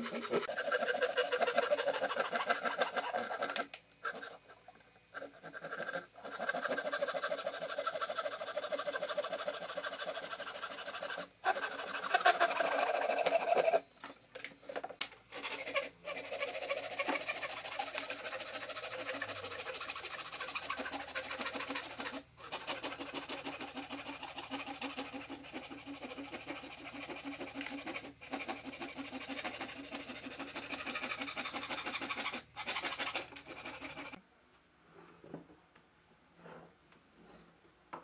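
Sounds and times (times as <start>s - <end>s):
woodworking tool scraping wood: 0.0s - 34.2s.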